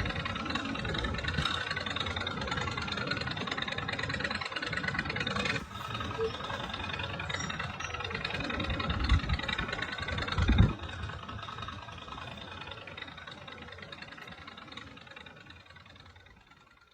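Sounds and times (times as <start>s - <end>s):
steam engine running: 0.0s - 16.9s.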